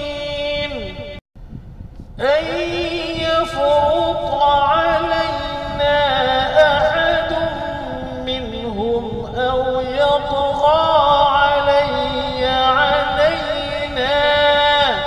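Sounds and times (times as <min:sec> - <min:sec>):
man chanting: 0:00.0 - 0:01.2, 0:02.2 - 0:15.0.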